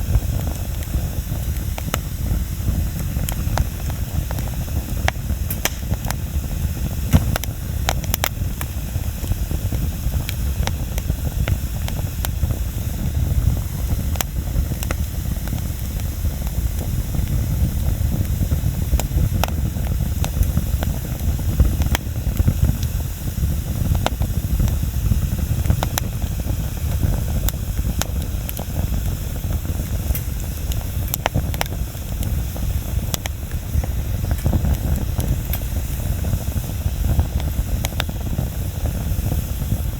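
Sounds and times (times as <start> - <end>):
fire crackles and pops: 0.0 - 39.9
low rumble of flame: 0.0 - 39.9.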